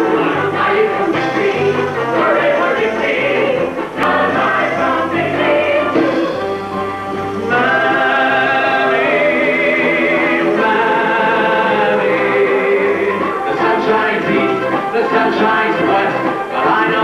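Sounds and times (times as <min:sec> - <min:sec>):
group singing with band: 0:00.0 - 0:17.0.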